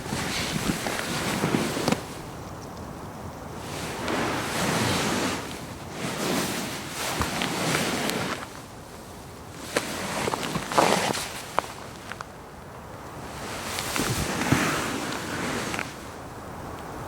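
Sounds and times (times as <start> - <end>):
fabric upholstery rustling: 0.0 - 2.2, 3.6 - 12.2, 13.2 - 16.2.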